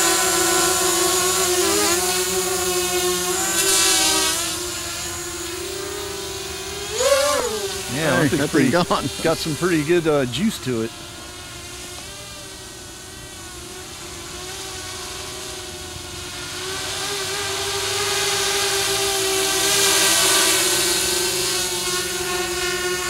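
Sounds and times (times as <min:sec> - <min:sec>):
quadcopter buzzing in flight: 0:00.0 - 0:23.0.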